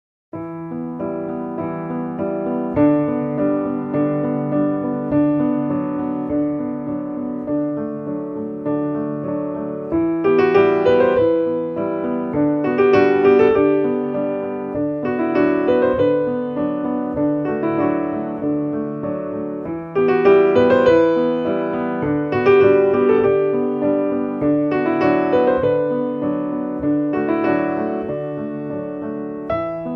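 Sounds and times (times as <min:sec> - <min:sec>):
piano music: 0:00.3 - 0:29.9.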